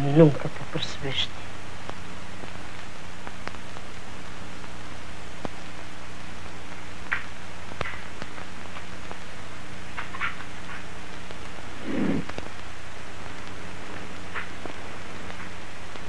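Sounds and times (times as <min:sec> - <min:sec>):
film soundtrack hiss: 0:00.0 - 0:16.0
low electrical hum: 0:00.0 - 0:16.0
faint clicks and ticks: 0:01.8 - 0:16.0.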